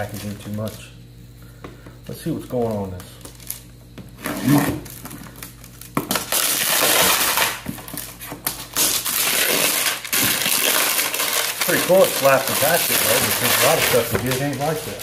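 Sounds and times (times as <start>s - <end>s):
plastic wrapping crinkling and tearing: 2.8s - 15.0s.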